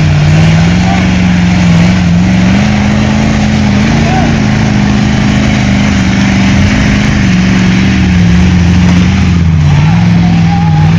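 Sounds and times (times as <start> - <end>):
pickup truck engine running loud: 0.0 - 10.9.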